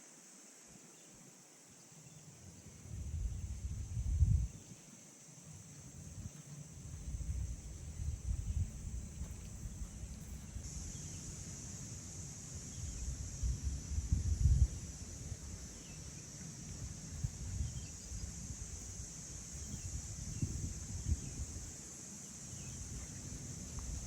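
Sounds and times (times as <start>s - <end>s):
high-pitched insect chorus: 0.0s - 24.0s
wind rumble on microphone: 2.5s - 4.8s, 5.8s - 24.0s.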